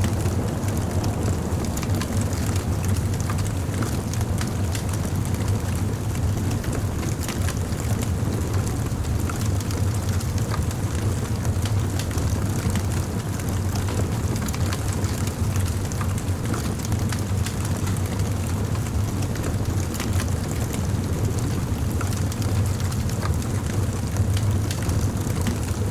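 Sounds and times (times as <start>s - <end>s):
burning wood crackling and popping: 0.0s - 25.9s
rumble of flames: 0.0s - 25.9s.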